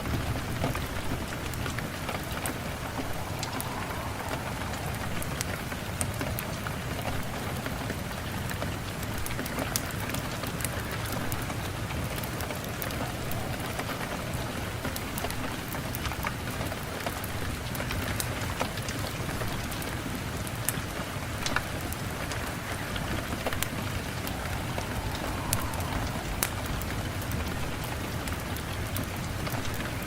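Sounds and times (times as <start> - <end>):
steady rain: 0.0 - 30.0
wood fire crackling: 0.0 - 30.0.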